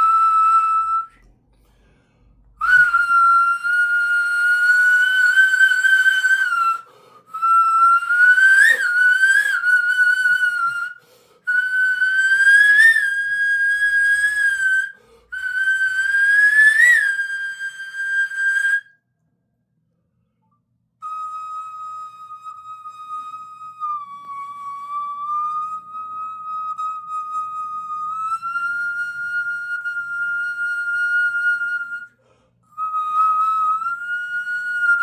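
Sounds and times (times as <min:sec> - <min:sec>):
stone flute whistle-like notes: 0:00.0 - 0:19.0, 0:21.0 - 0:35.0.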